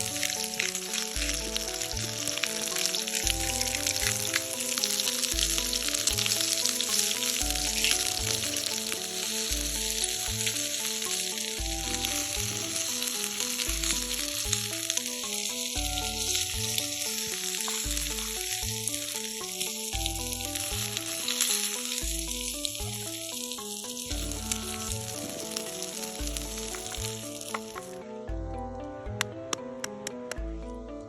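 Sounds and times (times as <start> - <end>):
food sizzling in a pan: 0.0 - 28.0
background music with bass line: 0.0 - 31.0.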